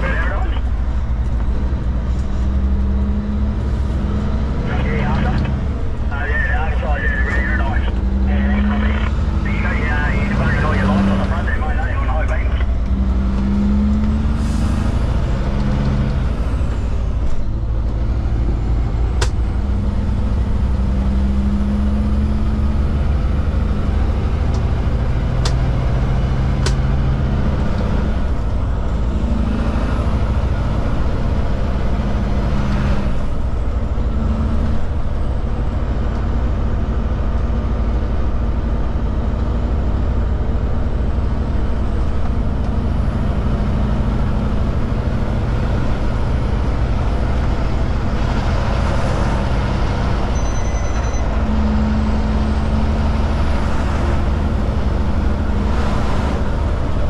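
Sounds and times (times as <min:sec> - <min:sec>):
diesel truck engine droning: 0:00.0 - 0:57.0.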